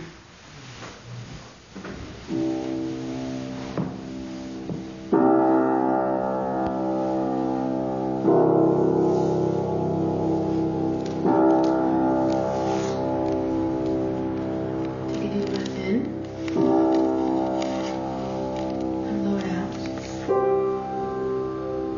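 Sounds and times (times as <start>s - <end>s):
keyboard playing slow chords: 2.3s - 21.9s.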